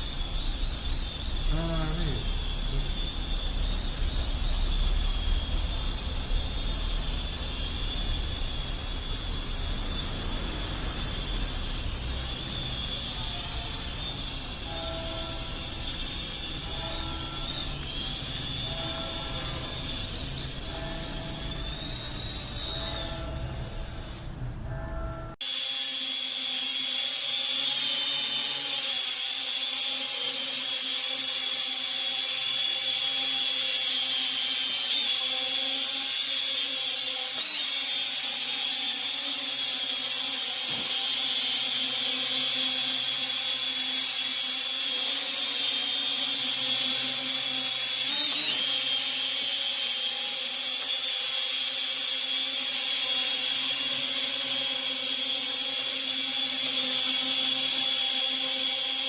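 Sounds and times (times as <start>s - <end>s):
toy drone propellers whirring: 0.0s - 59.0s.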